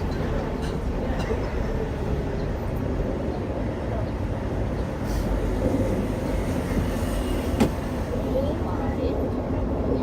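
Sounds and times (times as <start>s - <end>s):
tram rumbling on rails: 0.0s - 10.0s.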